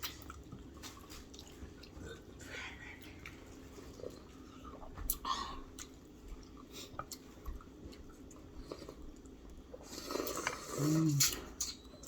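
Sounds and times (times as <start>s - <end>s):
chewing and wet mouth sounds: 0.0s - 12.0s.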